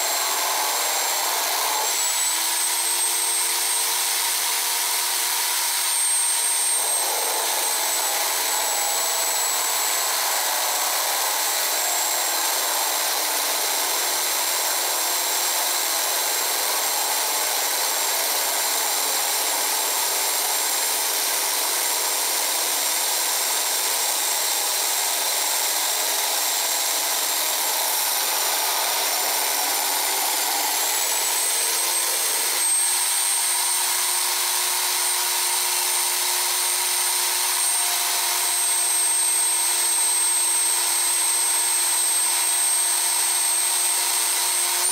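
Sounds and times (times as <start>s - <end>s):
drill press whining: 0.0s - 44.9s.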